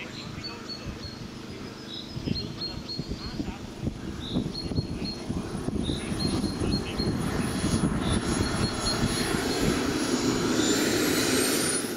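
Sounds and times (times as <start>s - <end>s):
model jet engine whine: 0.0s - 11.9s.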